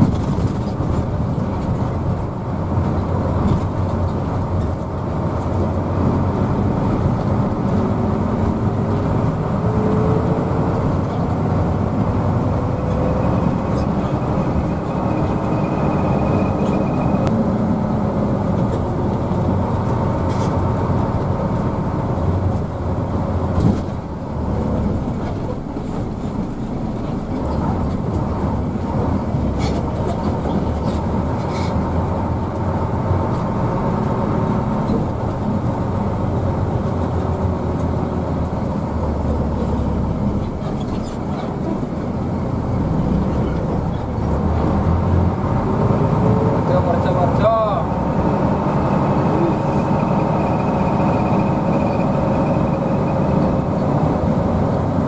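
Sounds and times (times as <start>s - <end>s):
bus engine drone: 0.0s - 55.0s
road rumble: 0.0s - 55.0s.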